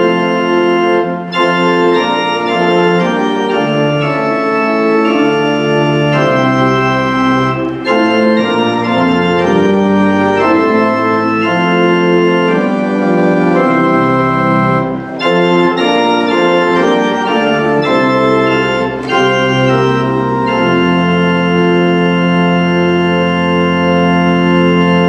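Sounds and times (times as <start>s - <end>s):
church organ playing hymn chords: 0.0s - 25.0s.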